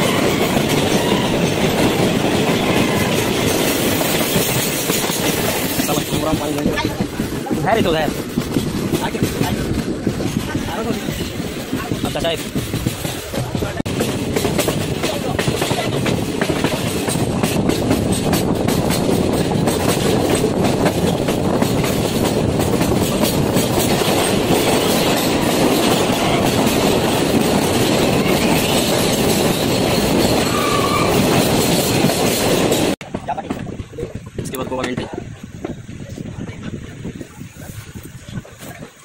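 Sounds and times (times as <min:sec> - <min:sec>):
rapid clattering over track: 0:00.0 - 0:37.2
train wheels rumbling on rails: 0:00.0 - 0:39.0.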